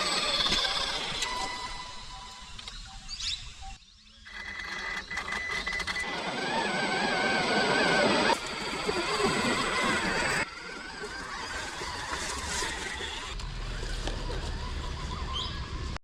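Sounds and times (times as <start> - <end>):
electric motor whine of toy truck: 0.0 - 2.8, 4.0 - 16.0.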